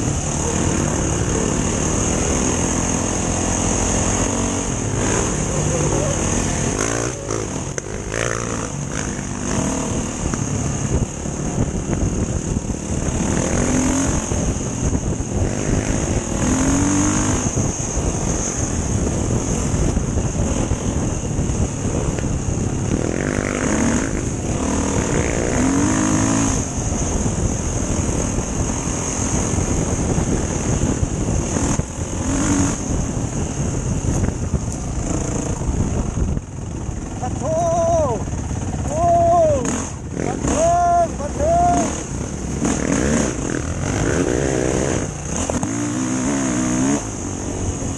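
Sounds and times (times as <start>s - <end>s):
dirt bike engine revving: 0.0s - 47.9s
wind and riding noise: 0.0s - 47.9s.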